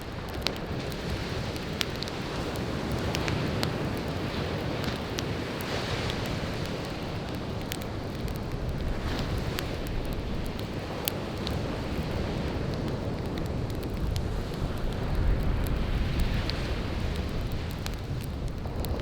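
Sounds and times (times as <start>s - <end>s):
campfire crackling and popping: 0.0s - 19.0s
wind: 0.0s - 19.0s.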